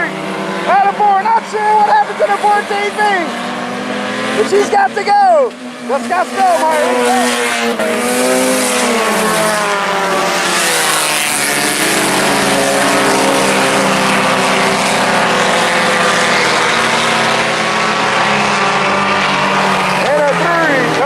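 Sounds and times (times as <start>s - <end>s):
race car engines racing: 0.0s - 21.0s.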